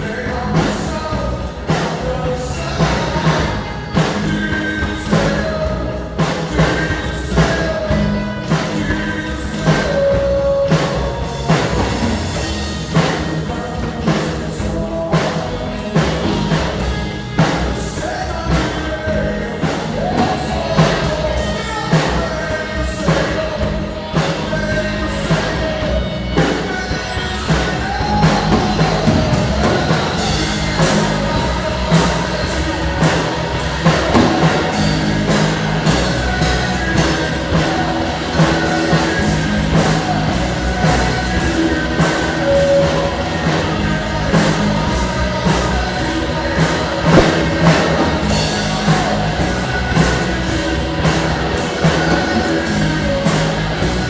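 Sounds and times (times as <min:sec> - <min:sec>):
drum kit steady beat: 0:00.0 - 0:54.0
rock music: 0:00.0 - 0:54.0.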